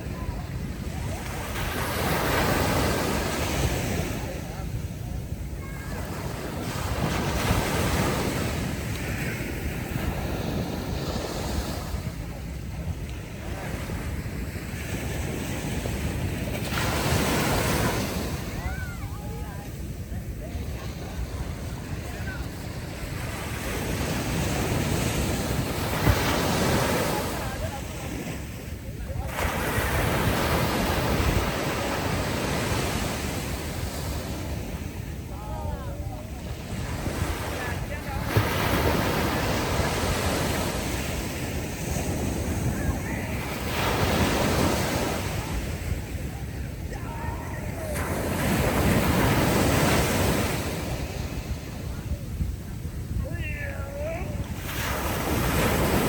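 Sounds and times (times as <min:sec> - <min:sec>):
ocean waves washing onto beach: 0:00.0 - 0:56.0
wind buffeting microphone: 0:00.0 - 0:56.0.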